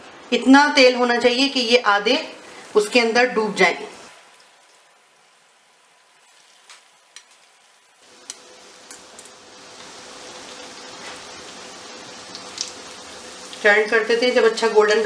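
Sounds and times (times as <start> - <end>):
cutlets sizzling in oil: 1.5 - 15.0.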